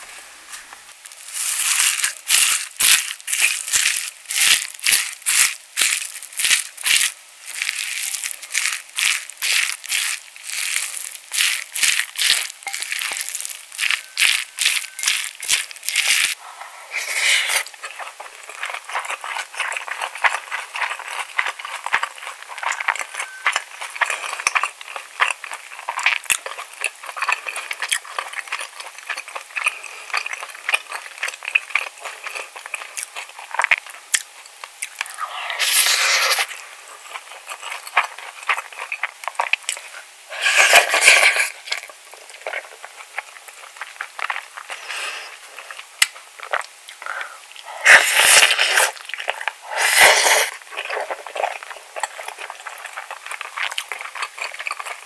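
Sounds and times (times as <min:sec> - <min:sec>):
chewing rice with mouth clicks: 0:01.4 - 0:16.4, 0:17.5 - 0:55.0.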